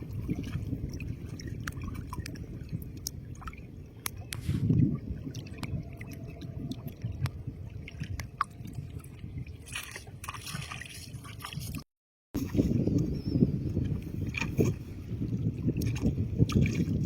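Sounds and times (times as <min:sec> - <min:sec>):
water sloshing and mud squelching: 0:00.0 - 0:17.0.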